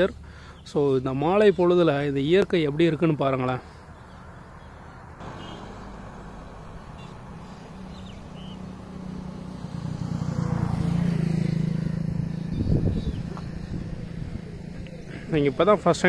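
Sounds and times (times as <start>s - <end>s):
vehicle engine hum passing: 2.8s - 16.0s.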